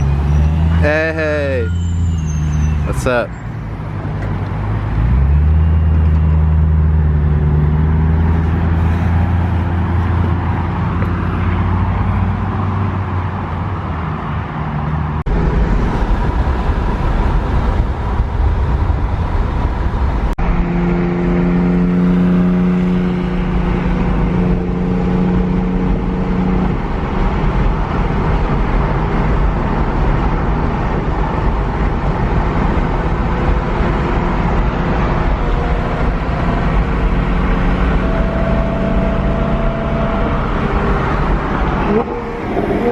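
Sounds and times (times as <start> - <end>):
car engine revving: 0.0 - 14.3, 15.0 - 42.9.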